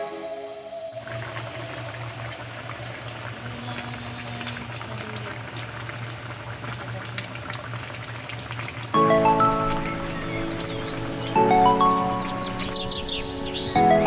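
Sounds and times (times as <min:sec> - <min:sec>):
soup bubbling at a boil: 0:01.0 - 0:13.8.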